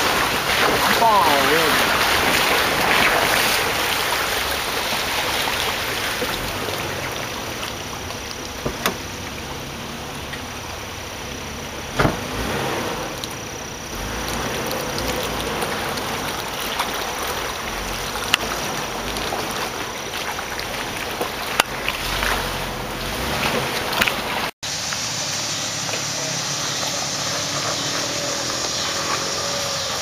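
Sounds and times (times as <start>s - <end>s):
car engine running: 0.0s - 30.0s
creek water running over rocks: 0.0s - 30.0s.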